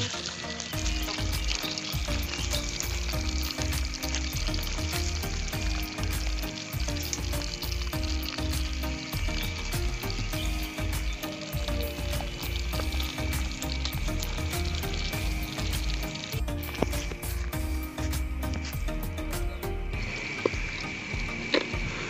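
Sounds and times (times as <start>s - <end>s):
fish sizzling in hot oil: 0.0s - 22.0s
music with pulsing beat: 0.0s - 22.0s.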